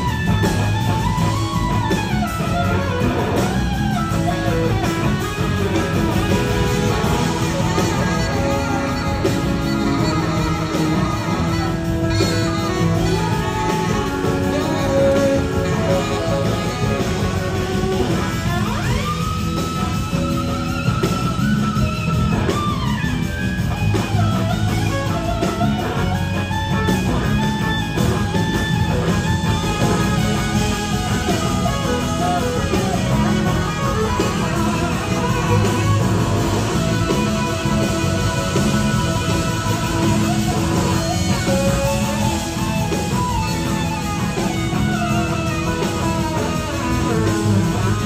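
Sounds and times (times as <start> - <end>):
electric guitar sliding notes: 0.0 - 48.0
live rock band: 0.0 - 48.0.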